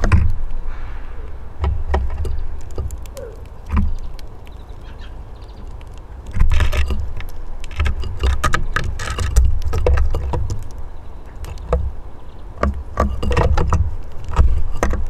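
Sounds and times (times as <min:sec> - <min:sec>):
birds pecking on wooden table: 0:00.0 - 0:15.0.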